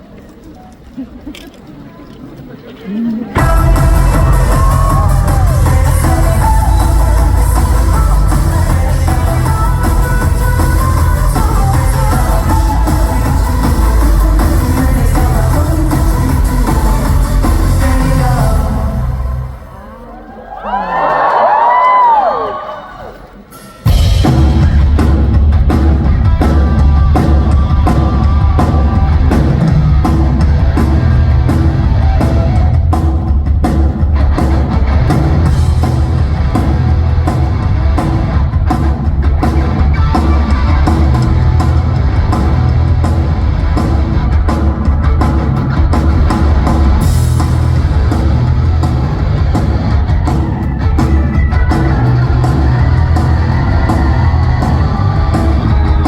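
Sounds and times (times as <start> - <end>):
live rock band playing: 3.4 - 19.8, 23.4 - 56.0.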